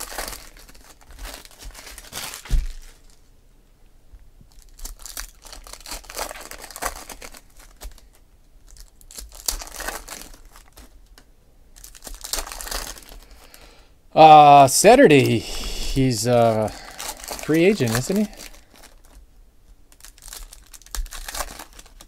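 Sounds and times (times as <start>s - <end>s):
foil wrappers crinkling and tearing: 0.0s - 3.2s, 4.5s - 13.7s, 16.3s - 22.0s.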